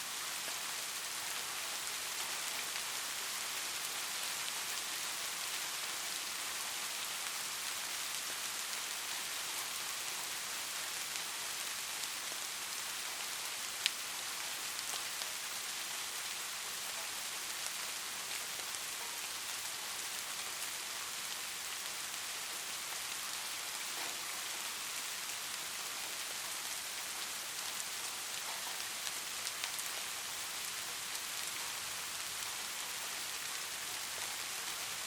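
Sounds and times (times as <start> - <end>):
light rain hissing: 0.0 - 35.0.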